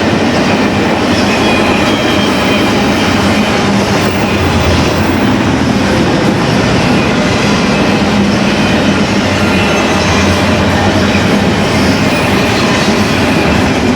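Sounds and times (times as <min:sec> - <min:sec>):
train wheels rumbling on rail: 0:00.0 - 0:13.9.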